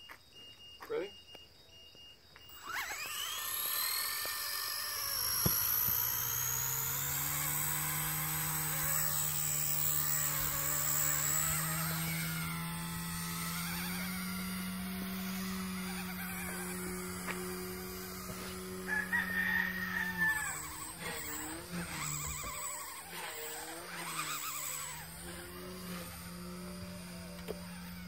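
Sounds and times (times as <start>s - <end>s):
rotor hum: 1.9s - 28.0s
helicopter motor whine: 2.4s - 28.0s.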